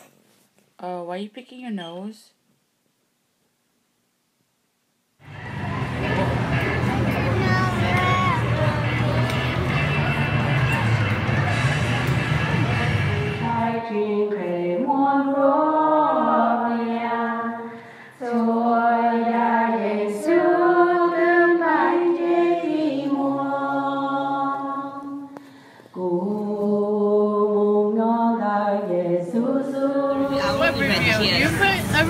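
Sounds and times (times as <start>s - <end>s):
group singing long held notes: 5.2s - 31.2s.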